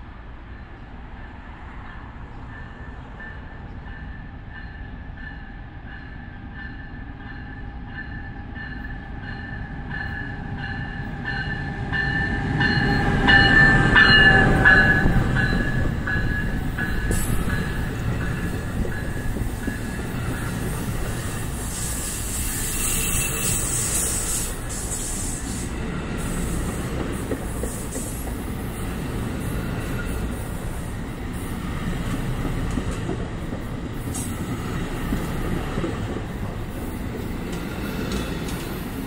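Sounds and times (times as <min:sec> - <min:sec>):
train passing rumble: 0:00.0 - 0:39.0.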